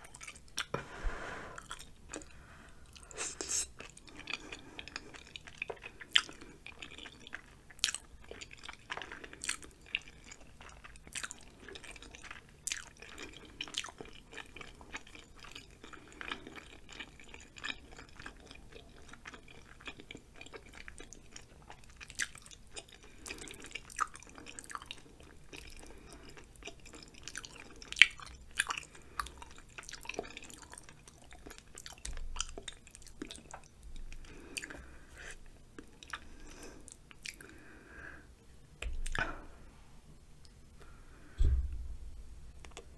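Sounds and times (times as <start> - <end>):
mouth chewing food: 0.0 - 0.7, 1.6 - 39.5.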